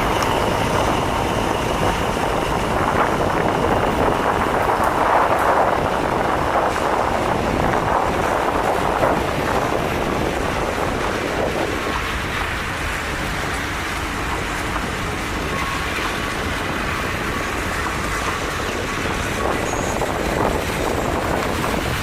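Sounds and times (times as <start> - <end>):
passenger train rumbling: 0.0 - 22.0
wind on microphone: 0.0 - 22.0.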